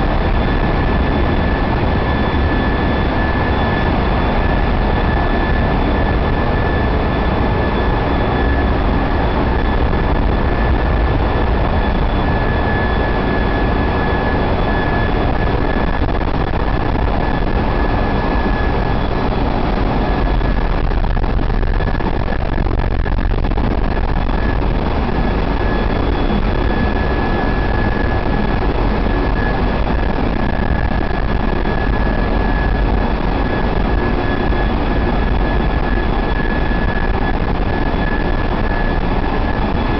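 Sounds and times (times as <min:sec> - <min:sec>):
high machinery whine: 0:00.0 - 0:39.9.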